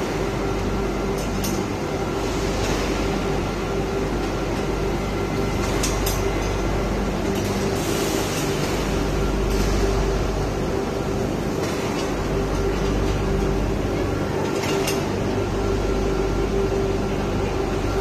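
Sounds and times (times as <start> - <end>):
machinery hum and rush: 0.0 - 18.0.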